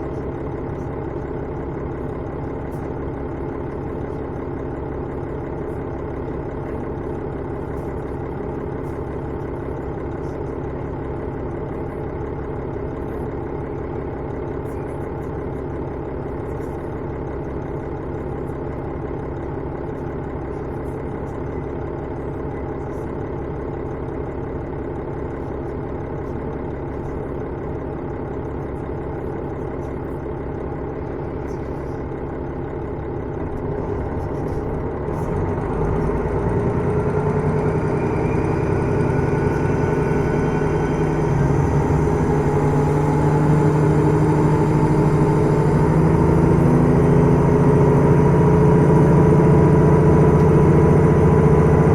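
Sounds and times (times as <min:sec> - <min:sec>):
diesel railcar engine droning: 0:00.0 - 0:51.9.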